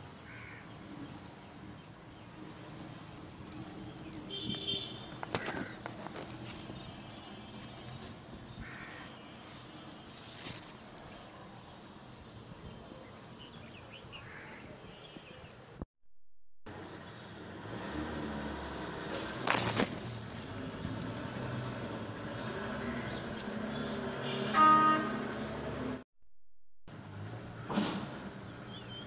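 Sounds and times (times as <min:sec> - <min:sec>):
outdoor background noise: 0:00.0 - 0:15.9, 0:16.7 - 0:26.0, 0:26.9 - 0:29.0.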